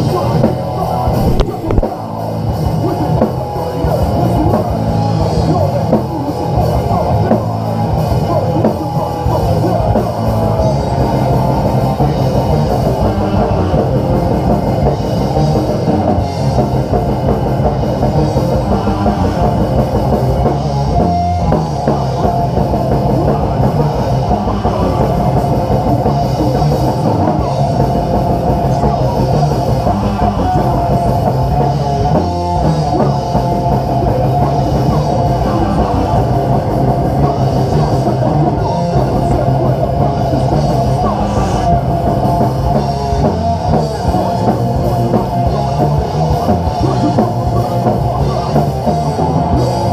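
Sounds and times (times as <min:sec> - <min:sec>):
distorted electric guitars: 0:00.0 - 0:49.9
drum kit beat: 0:00.0 - 0:49.9.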